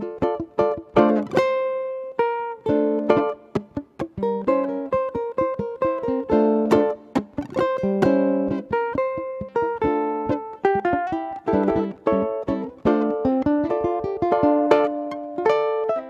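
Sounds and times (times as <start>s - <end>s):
ukulele duet: 0.0s - 16.0s.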